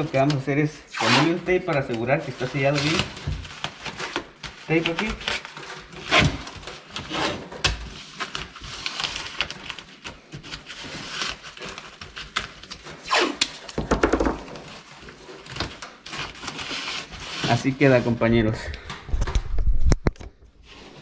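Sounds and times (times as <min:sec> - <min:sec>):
plastic film crinkling: 0:01.3 - 0:18.6.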